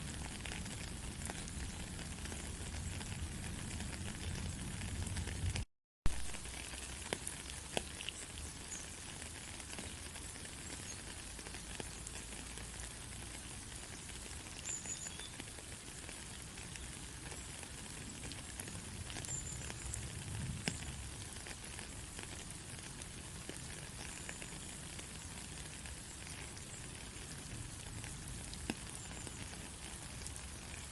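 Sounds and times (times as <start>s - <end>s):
steady rain patter: 0.0s - 30.9s.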